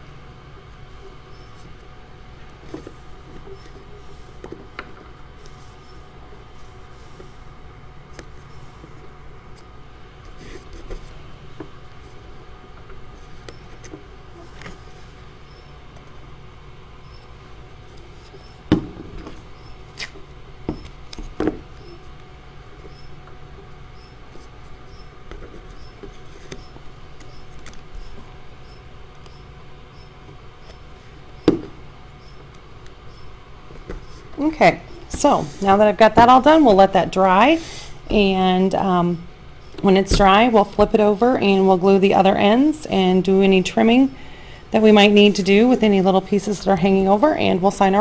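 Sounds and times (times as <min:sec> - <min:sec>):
low room hum: 0:00.0 - 0:48.0.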